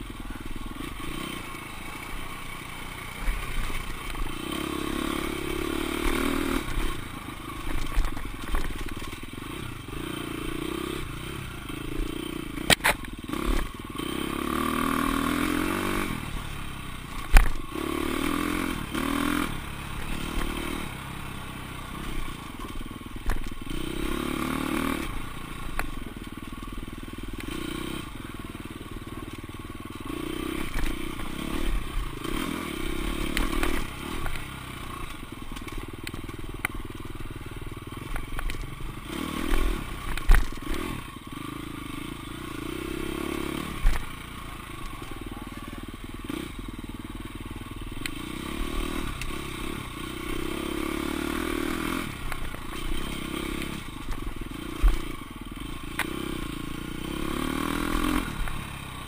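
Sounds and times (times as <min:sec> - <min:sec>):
dirt bike engine revving: 0:00.0 - 0:35.9, 0:36.8 - 0:59.0.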